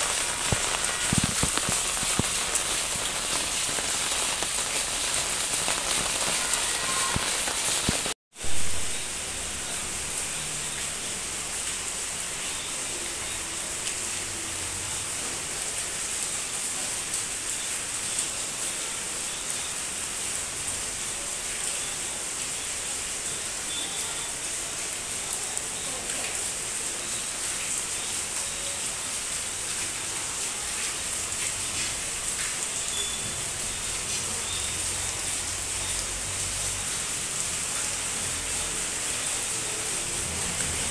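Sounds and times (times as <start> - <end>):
rain falling on plants: 0.0 - 40.9.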